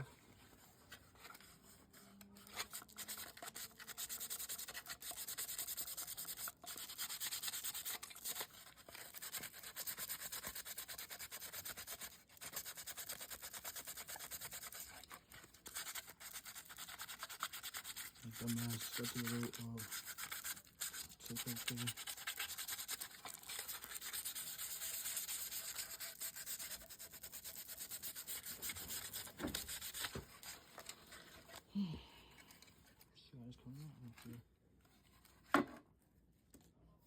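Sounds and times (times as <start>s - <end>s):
sandpaper rubbing plastic: 0.6s - 31.6s.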